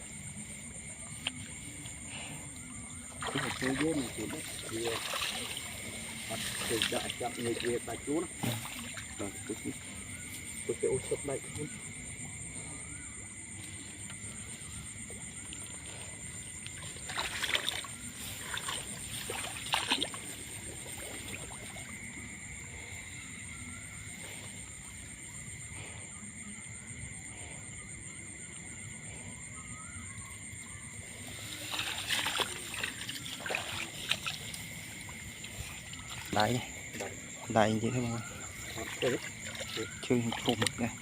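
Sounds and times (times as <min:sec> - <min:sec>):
water splashing and sloshing: 0:00.0 - 0:25.8, 0:29.8 - 0:41.0.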